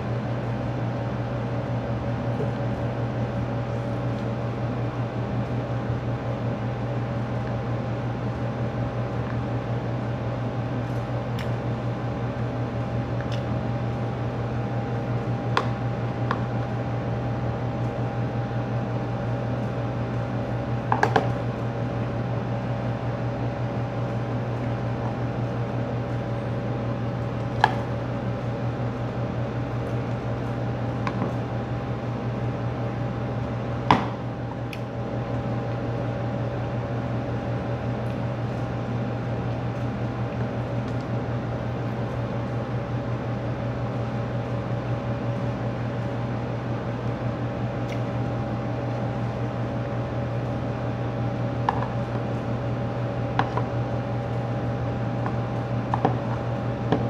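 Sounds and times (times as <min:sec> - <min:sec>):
air conditioner humming: 0:00.0 - 0:57.0.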